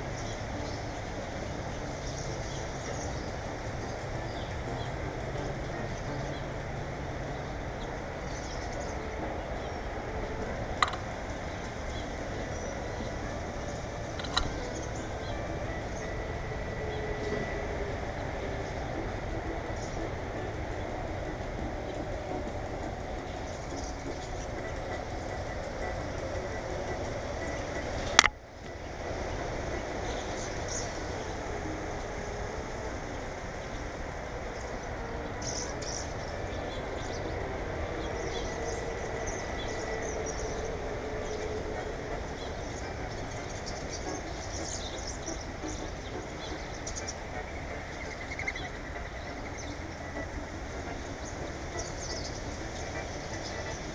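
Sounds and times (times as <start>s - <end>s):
small birds chirping: 0.0s - 53.9s
steady low rumble and hiss: 0.0s - 53.9s.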